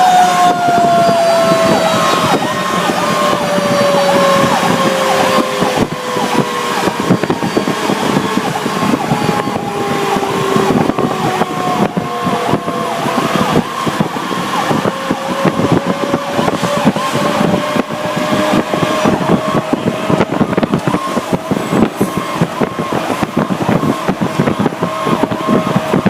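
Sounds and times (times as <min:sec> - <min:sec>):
rattling in truck cab: 0:00.0 - 0:26.0
siren rising and falling: 0:00.0 - 0:26.0
truck engine and road rumble: 0:00.0 - 0:26.0.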